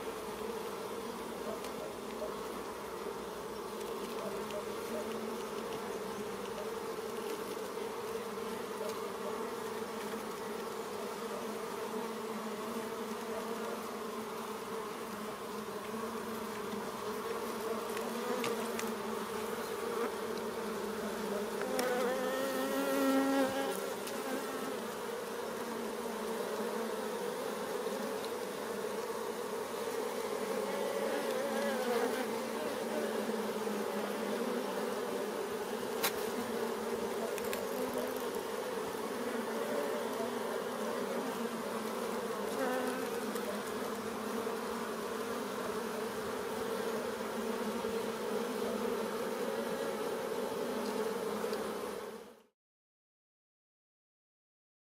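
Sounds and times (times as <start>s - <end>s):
honey bees humming: 0.0s - 52.4s
close bee buzz: 0.0s - 52.5s.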